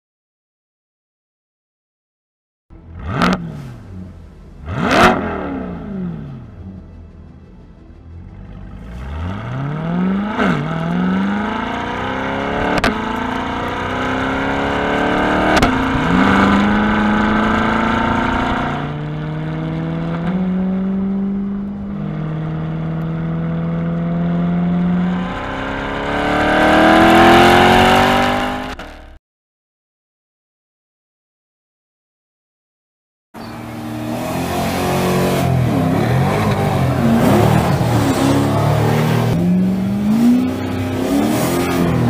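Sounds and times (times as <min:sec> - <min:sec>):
sports car engine accelerating: 0:02.7 - 0:29.2, 0:33.4 - 0:42.0.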